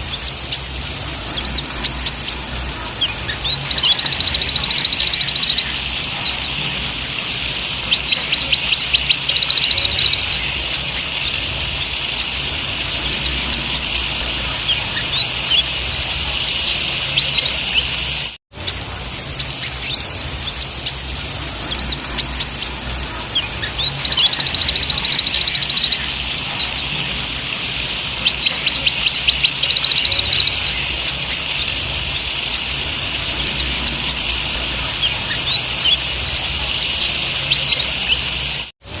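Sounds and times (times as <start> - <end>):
birds chirping and trilling: 0.0 - 38.7.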